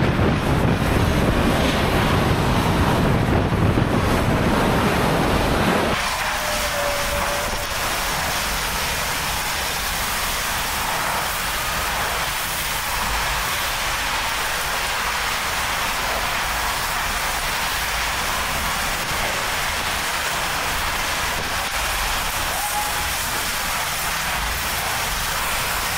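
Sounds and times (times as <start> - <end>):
storm wind and rain: 0.0 - 25.9.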